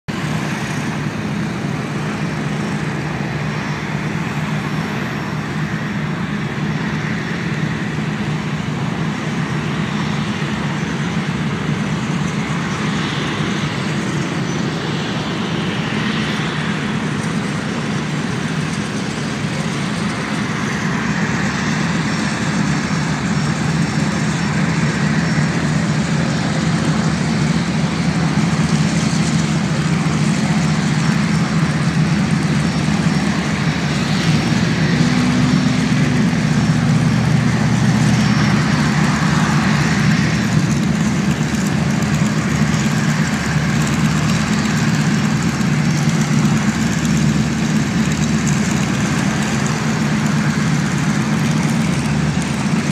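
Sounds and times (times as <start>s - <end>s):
radial piston engines droning: 0.1s - 52.9s.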